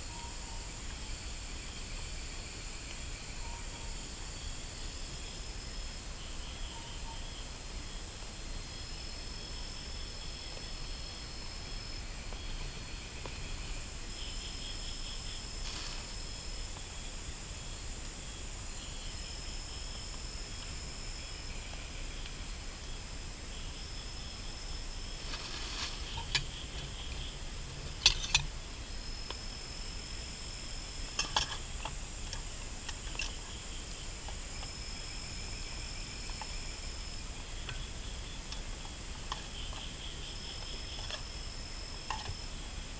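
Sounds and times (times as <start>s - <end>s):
insects trilling: 0.0s - 42.9s
pulsed insect chirping: 0.0s - 42.9s.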